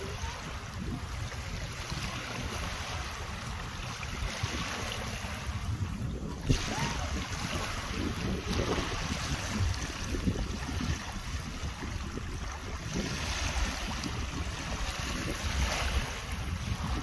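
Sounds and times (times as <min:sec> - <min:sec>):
small waves lapping on sand: 0:00.0 - 0:17.0
wind buffeting microphone: 0:00.0 - 0:17.0.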